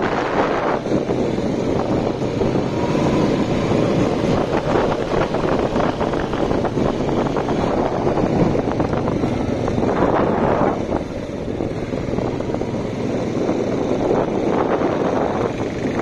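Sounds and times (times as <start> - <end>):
quad bike engine running: 0.0 - 16.0
wind buffeting microphone: 0.0 - 16.0.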